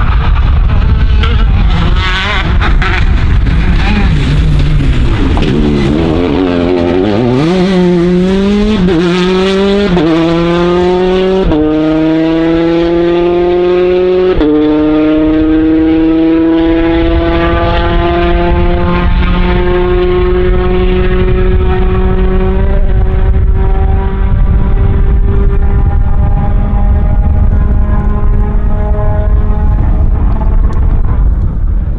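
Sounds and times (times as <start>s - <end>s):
rally car engine accelerating: 0.0s - 31.7s.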